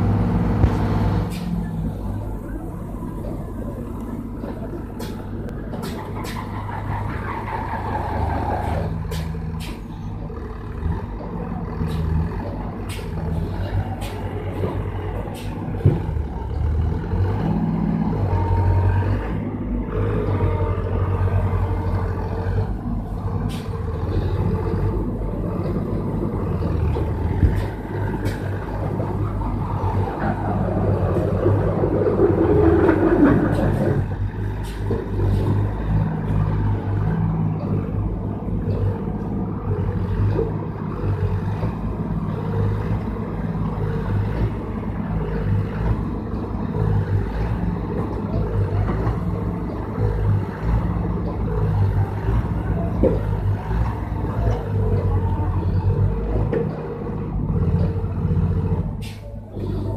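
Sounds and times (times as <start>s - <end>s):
tractor diesel engine straining: 0.0s - 59.9s.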